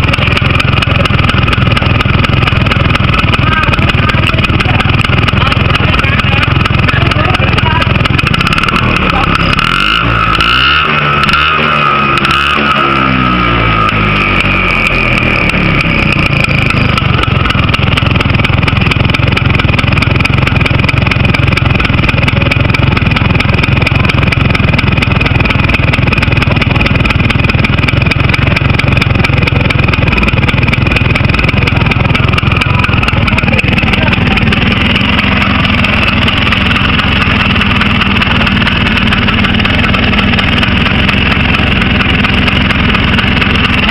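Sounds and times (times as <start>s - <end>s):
car engine revving: 0.0s - 22.0s, 23.0s - 43.9s.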